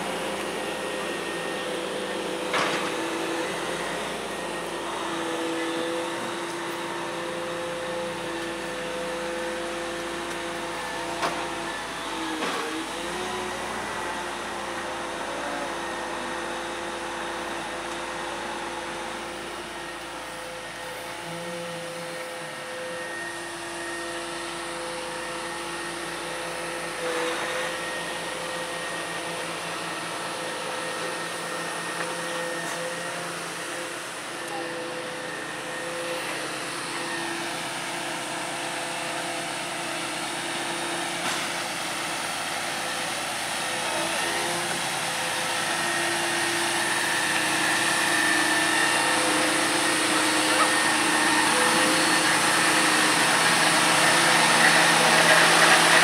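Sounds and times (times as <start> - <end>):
diesel truck engine whining: 0.0 - 56.0.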